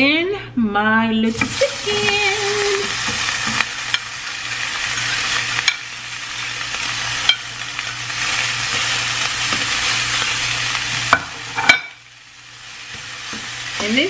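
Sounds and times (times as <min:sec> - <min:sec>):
chicken sizzling in frying pan: 0:01.3 - 0:14.0.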